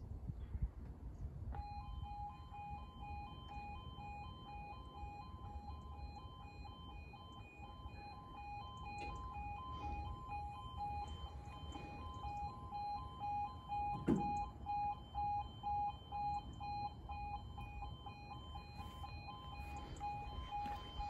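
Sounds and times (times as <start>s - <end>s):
level crossing two-tone alarm: 1.6s - 21.0s.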